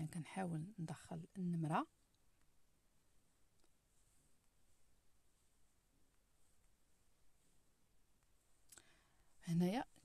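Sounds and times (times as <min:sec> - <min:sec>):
faint room hiss: 0:00.0 - 0:10.0.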